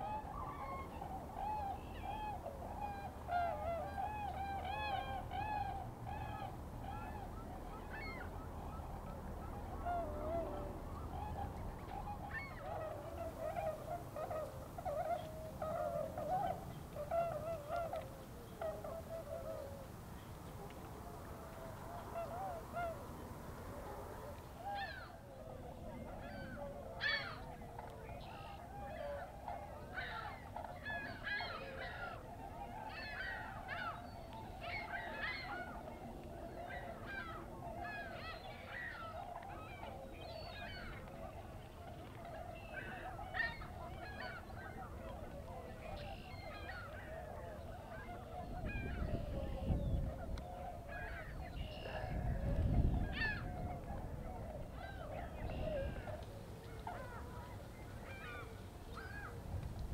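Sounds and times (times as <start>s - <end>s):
distant swan chorus: 0.0s - 59.9s
swans calling: 0.0s - 59.9s.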